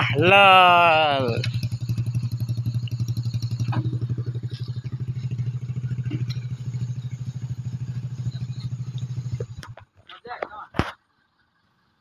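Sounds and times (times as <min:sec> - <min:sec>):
small tractor engine running: 0:00.0 - 0:10.0.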